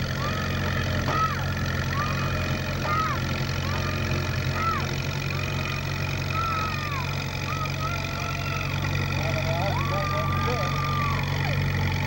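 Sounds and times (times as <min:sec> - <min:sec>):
tractor engine running under load: 0:00.0 - 0:12.0
high squeals: 0:00.1 - 0:12.0.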